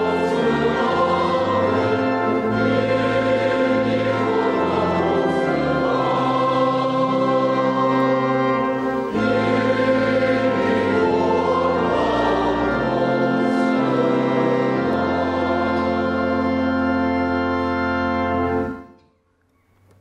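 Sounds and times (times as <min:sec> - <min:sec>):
congregation singing a hymn: 0:00.0 - 0:18.9
organ chords: 0:00.0 - 0:19.1.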